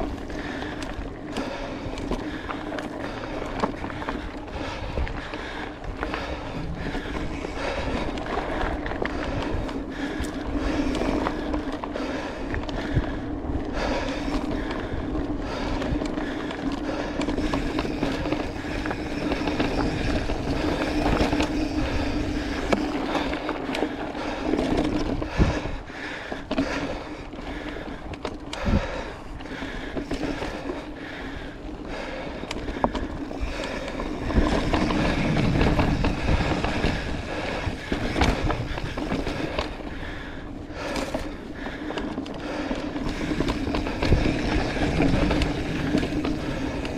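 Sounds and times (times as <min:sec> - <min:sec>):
bike rattling over bumps: 0:00.0 - 0:46.9
bike tyres crunching over dirt: 0:00.0 - 0:46.9.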